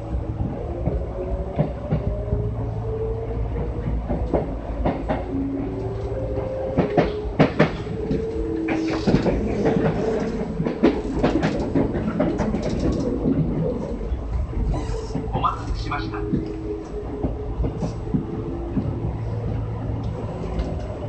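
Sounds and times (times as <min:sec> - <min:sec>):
train interior low rumble: 0:00.0 - 0:21.0
wheels clacking over rail joints: 0:03.5 - 0:21.0.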